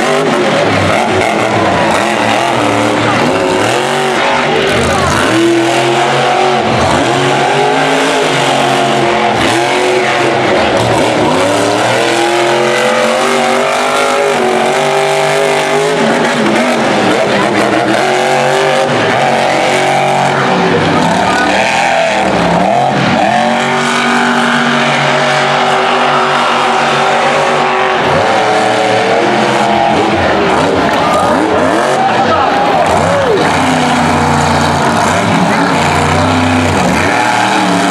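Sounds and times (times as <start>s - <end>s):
monster truck engine revving: 0.0s - 37.9s.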